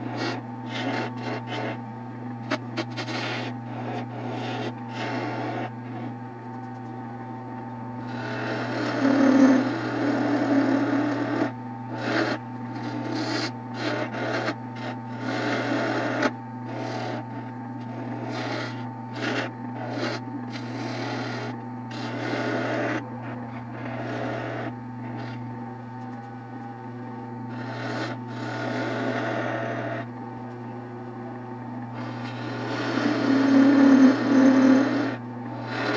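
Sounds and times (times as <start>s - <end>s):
tool cutting spinning wood: 0.0s - 1.8s, 2.4s - 6.2s, 8.0s - 25.4s, 27.5s - 30.1s, 31.9s - 35.9s
wood lathe motor hum: 0.0s - 35.9s.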